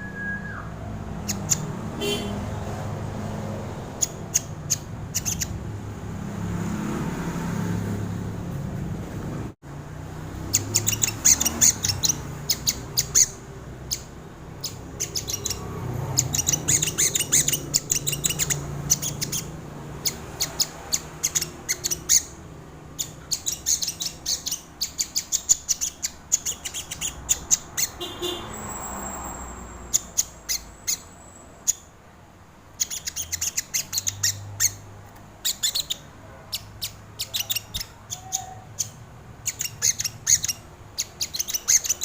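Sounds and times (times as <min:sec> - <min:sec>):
bird singing sharp chips and trills: 0:00.0 - 0:02.3, 0:03.9 - 0:05.7, 0:10.4 - 0:32.0, 0:32.7 - 0:42.0.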